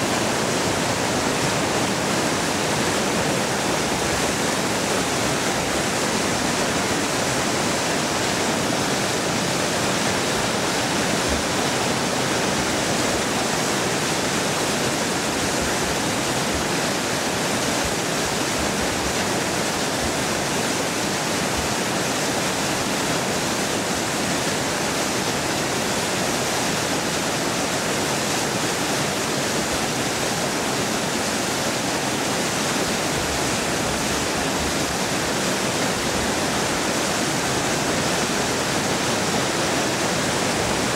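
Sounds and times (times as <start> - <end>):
water rushing through spillway: 0.0 - 40.9.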